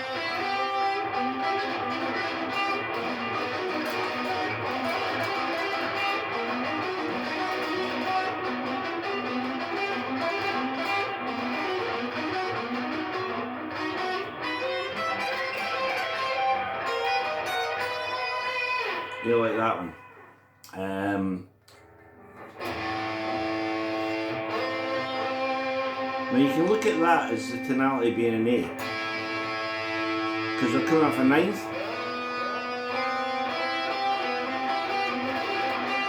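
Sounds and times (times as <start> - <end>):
electric guitar lead lick: 0.0 - 20.9, 21.7 - 36.0.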